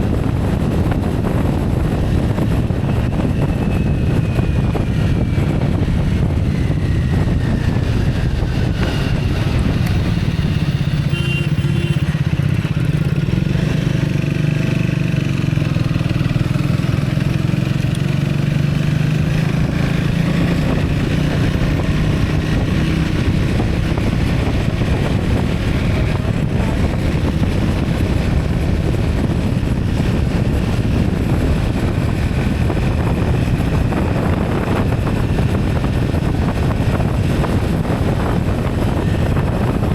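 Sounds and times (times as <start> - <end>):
vehicle engine and road rumble: 0.0 - 39.9
wind on microphone: 0.0 - 39.9.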